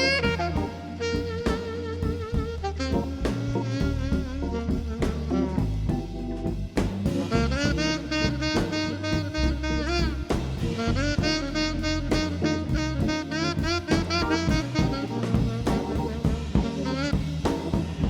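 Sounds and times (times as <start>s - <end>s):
jazz swing music with saxophone: 0.0s - 18.0s
steady drum beat: 0.0s - 18.0s.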